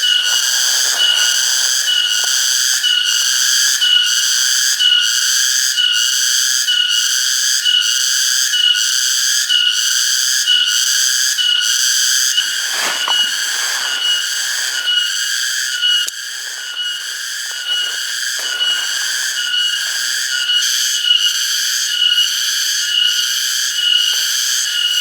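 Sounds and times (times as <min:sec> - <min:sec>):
cicadas pulsing buzz: 0:00.0 - 0:25.0.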